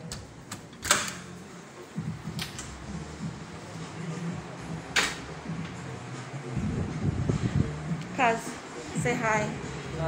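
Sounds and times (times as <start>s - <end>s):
low background murmur: 1.3s - 10.0s.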